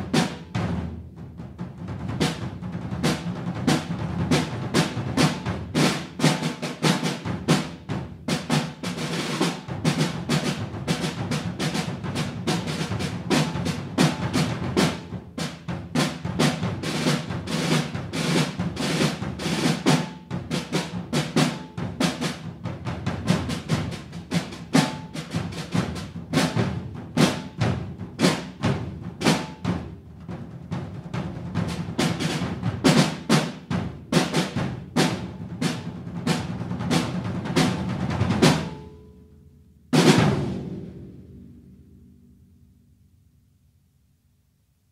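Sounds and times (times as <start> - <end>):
snare drums playing rolls: 0.0 - 39.0, 39.9 - 41.9.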